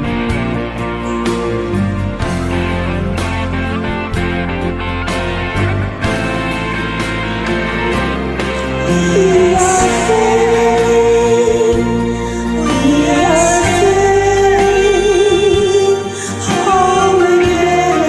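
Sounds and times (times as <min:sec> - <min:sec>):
karaoke ballad backing music: 0:00.0 - 0:18.0.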